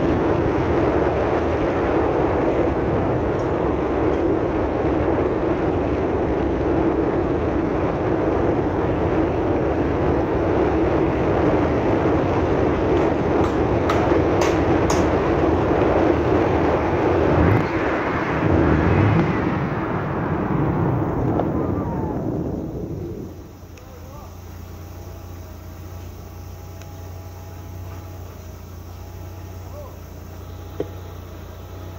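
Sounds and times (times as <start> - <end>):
wind rumbling on microphone: 0.0 - 29.2
vehicle road noise on rough road: 0.0 - 31.9.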